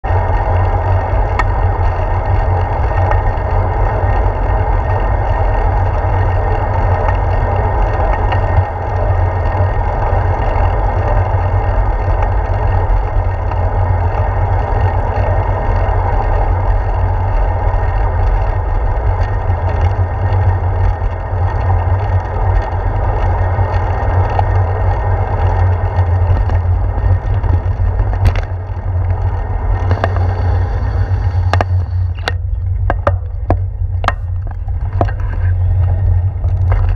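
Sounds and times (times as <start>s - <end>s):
wind and road rumble: 0.0s - 36.9s.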